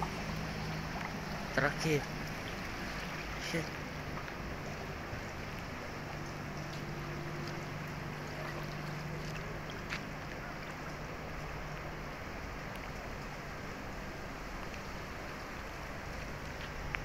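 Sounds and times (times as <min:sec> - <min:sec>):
low steady hum: 0:00.0 - 0:17.0
water rushing over road: 0:00.0 - 0:17.0
wind: 0:00.0 - 0:17.0.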